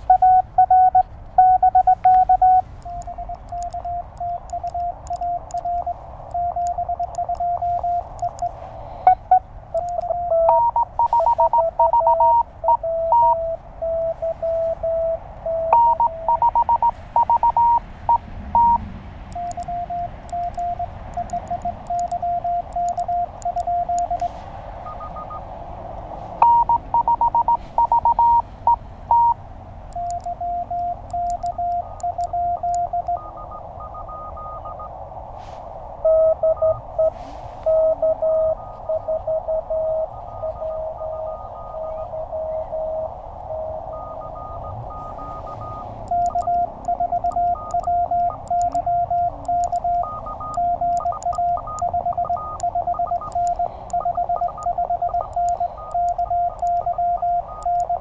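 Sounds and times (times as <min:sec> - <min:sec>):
incoming morse signal: 0:00.0 - 0:25.6, 0:26.3 - 0:58.0
morse code sidetone: 0:00.0 - 0:25.6, 0:26.2 - 0:58.0
radio band hiss: 0:00.0 - 0:29.1, 0:30.0 - 0:58.0.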